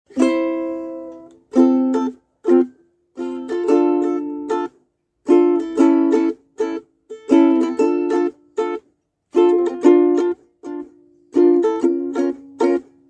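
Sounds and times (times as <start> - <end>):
small string instrument strummed: 0.1 - 13.0.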